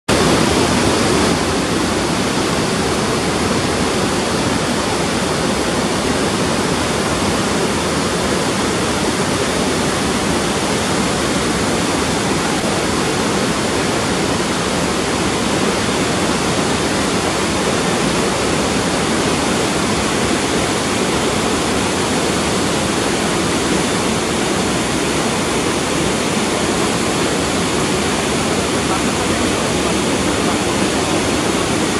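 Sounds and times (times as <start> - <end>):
waterfall and rapids rushing: 0.1 - 31.9.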